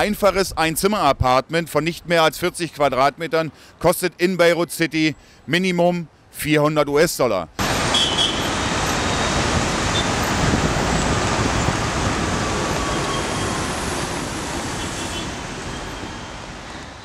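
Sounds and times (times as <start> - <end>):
heavy road traffic: 0.0 - 6.4, 7.2 - 17.0.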